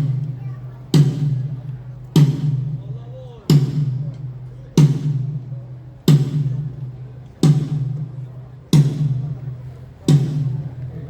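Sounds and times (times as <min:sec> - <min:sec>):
drum hits: 0:00.0 - 0:11.0.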